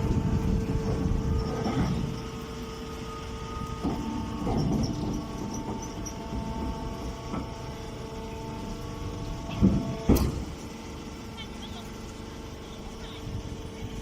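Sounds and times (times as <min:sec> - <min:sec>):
hay baler engine drone: 0:00.0 - 0:14.0.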